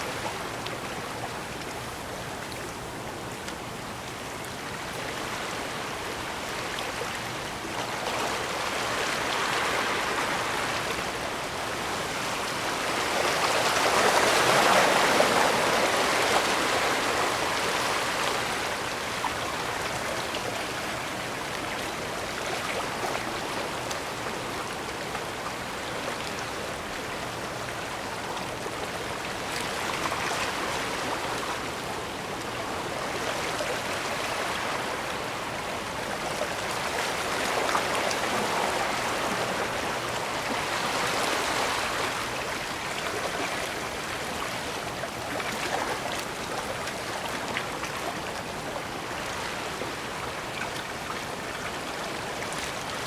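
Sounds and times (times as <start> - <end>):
waves washing on shore: 0.0 - 53.0.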